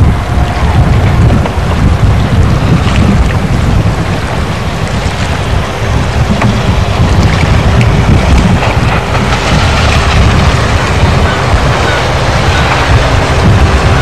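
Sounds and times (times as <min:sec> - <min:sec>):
motorboat engine running: 0:00.0 - 0:14.0
wind rumble on microphone: 0:00.0 - 0:14.0.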